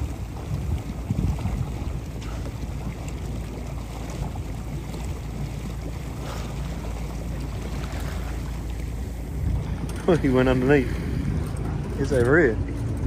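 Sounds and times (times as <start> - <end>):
water from moving boat: 0.0 - 13.0
wind on microphone: 0.0 - 13.0.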